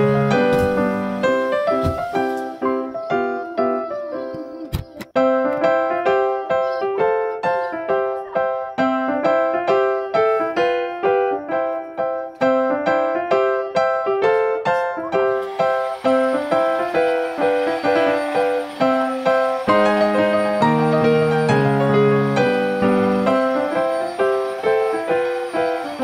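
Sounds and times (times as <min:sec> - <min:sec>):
keyboard music: 0:00.0 - 0:26.0.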